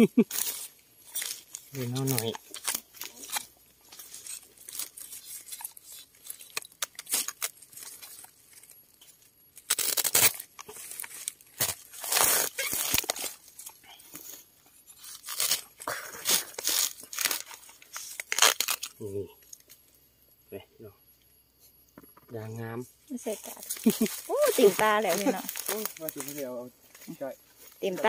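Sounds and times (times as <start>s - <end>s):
dry plant matter crackling and snapping: 0.3s - 19.8s, 23.4s - 27.9s.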